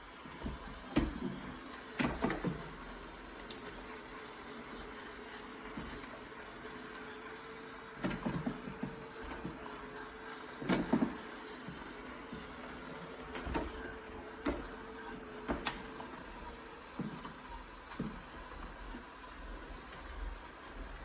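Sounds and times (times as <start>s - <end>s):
robot vacuum humming: 0.0s - 21.0s.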